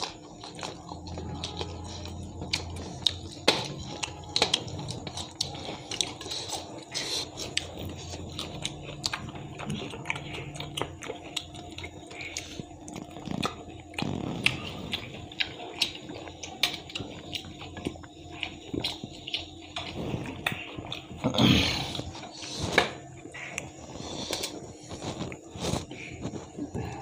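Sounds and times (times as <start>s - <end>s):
people chewing with wet smacks: 0.0s - 27.0s.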